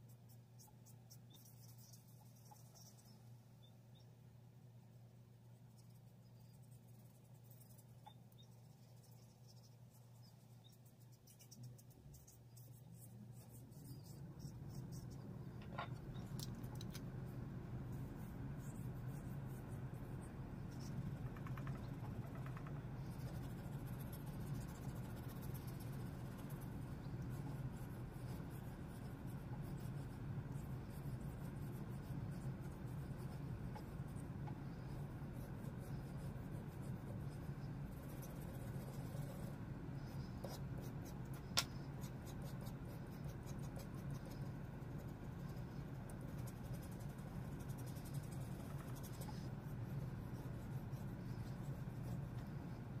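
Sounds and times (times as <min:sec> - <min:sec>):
pen nib scratching paper: 0:00.0 - 0:03.2, 0:05.6 - 0:53.0
low hum: 0:00.1 - 0:53.0.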